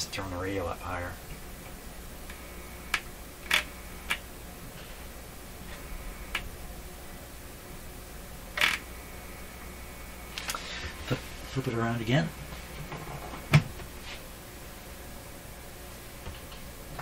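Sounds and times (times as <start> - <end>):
radio mains hum: 0.0 - 17.0.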